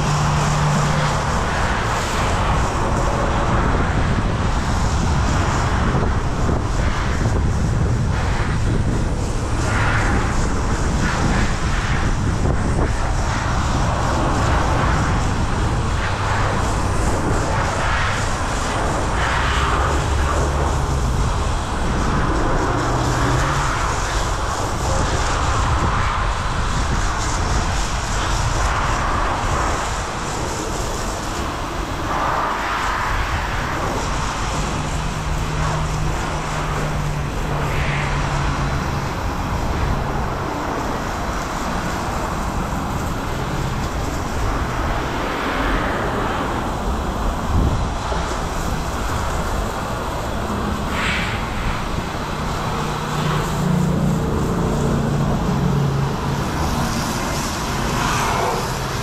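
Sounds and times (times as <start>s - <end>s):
pressurised foam spray hissing: 0.0s - 59.0s.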